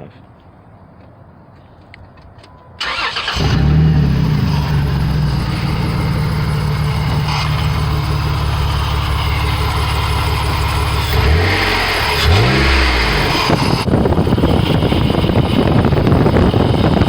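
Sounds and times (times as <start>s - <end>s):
pickup engine idling and revving: 2.8s - 17.0s.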